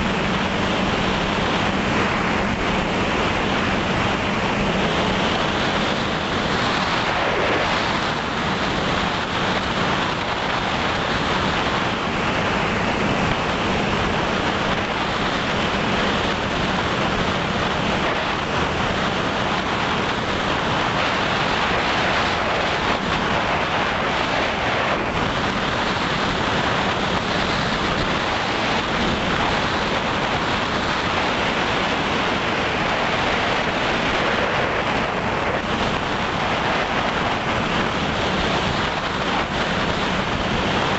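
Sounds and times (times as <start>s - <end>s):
propeller hum: 0.0s - 40.9s
wind rushing: 0.0s - 40.9s.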